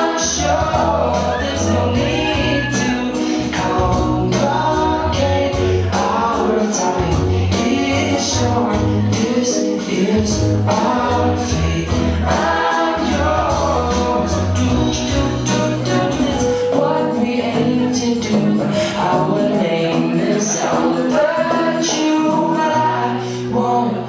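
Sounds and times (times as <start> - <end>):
song with singing over beat: 0.0 - 24.0.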